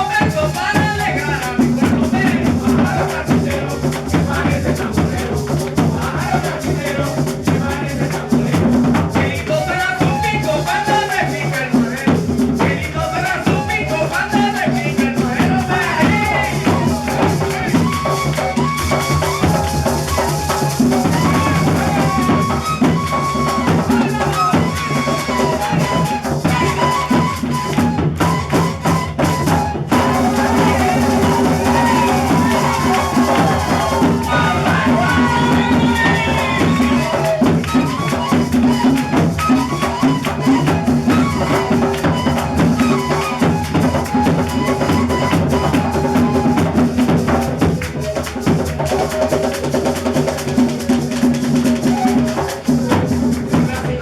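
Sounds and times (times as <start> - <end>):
drums: 0.0 - 54.0
maracas shaking: 0.0 - 54.0.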